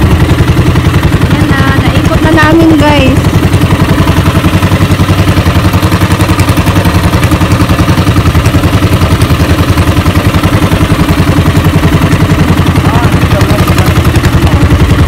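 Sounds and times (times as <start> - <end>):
small boat engine running: 0.0 - 15.0.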